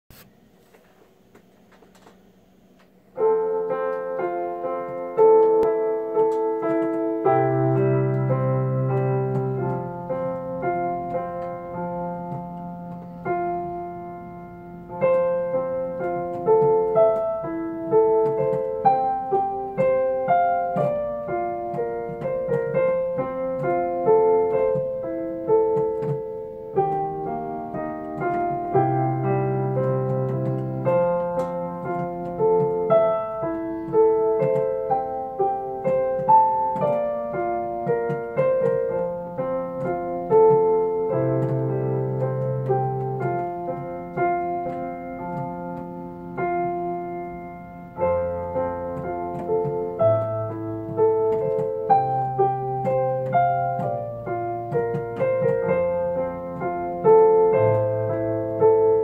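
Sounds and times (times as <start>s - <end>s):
solo piano: 1.2s - 59.0s.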